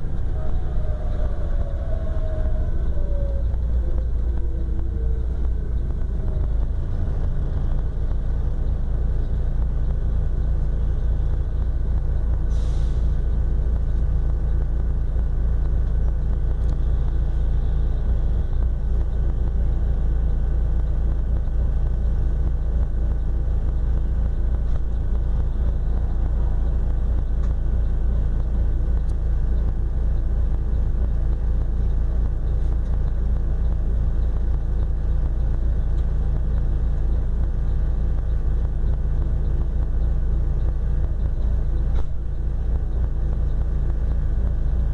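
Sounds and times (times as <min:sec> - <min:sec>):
diesel engine droning: 0:00.0 - 0:44.9
road noise: 0:00.0 - 0:44.9.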